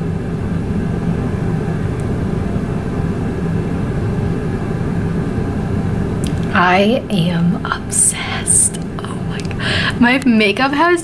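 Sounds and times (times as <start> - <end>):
machine hum with whir: 0.0 - 11.0.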